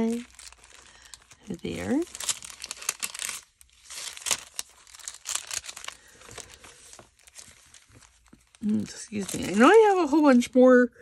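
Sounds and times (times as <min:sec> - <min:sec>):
paper rustling and crinkling: 0:00.0 - 0:10.6.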